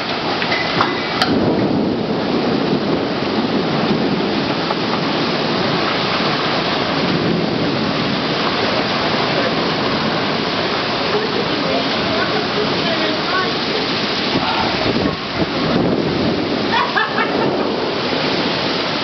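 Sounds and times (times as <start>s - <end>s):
heavy rain pouring: 0.0s - 19.0s
strong wind: 0.0s - 19.0s.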